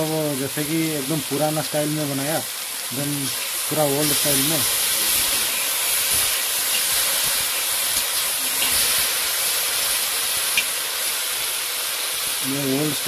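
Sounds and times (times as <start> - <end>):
fish sizzling in a wok: 0.0 - 13.0.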